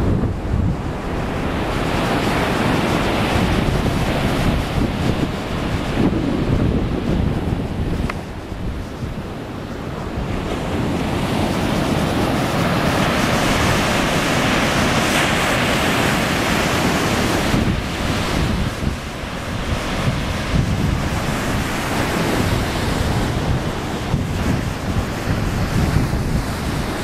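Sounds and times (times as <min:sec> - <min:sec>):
ocean surf breaking on beach: 0:00.0 - 0:27.0
wind buffeting microphone: 0:00.0 - 0:27.0.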